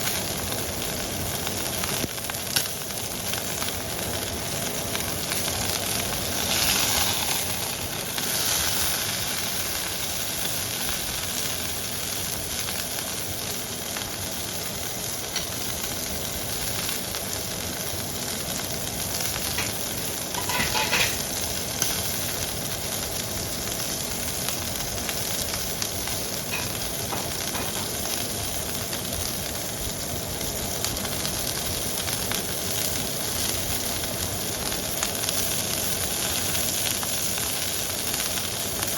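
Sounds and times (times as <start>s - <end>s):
steak sizzling in a pan: 0.0s - 38.9s.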